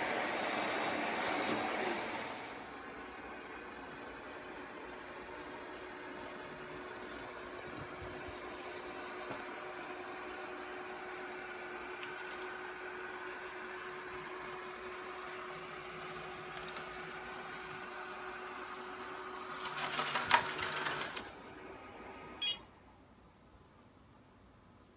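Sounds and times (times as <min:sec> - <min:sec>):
robot vacuum humming: 0:00.0 - 0:22.5.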